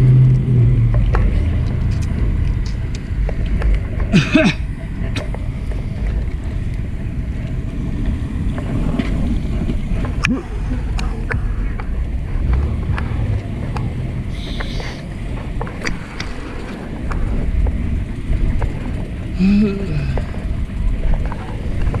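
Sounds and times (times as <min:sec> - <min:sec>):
road rumble: 0:00.0 - 0:22.0
wind buffeting microphone: 0:00.0 - 0:22.0.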